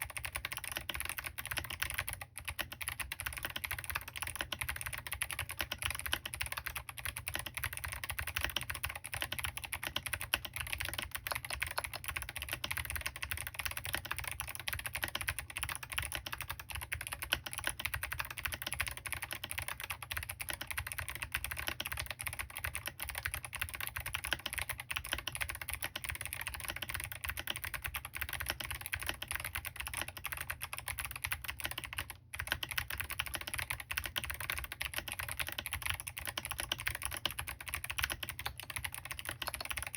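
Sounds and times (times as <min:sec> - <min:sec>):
fast typing on clicky keyboard: 0:00.0 - 0:39.9.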